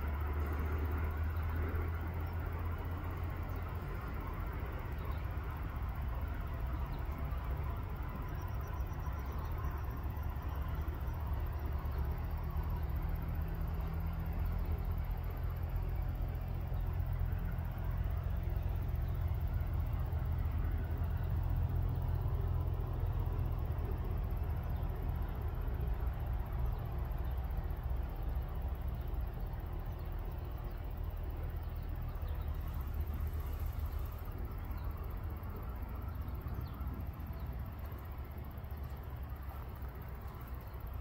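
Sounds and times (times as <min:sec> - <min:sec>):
faint hiss: 0:00.0 - 0:41.0.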